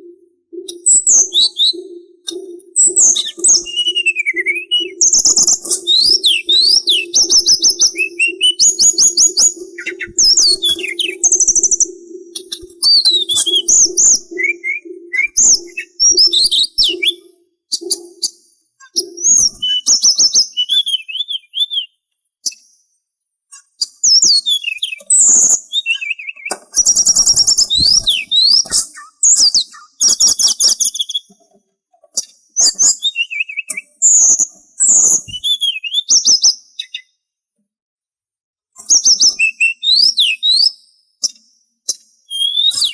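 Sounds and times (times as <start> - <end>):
songbird whistling and trilling: 0.0 - 22.8, 23.6 - 31.4, 32.2 - 37.2, 38.8 - 42.9.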